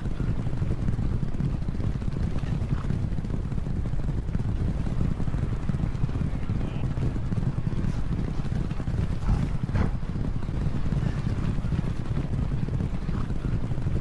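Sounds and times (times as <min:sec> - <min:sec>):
horses galloping: 0:00.0 - 0:14.0.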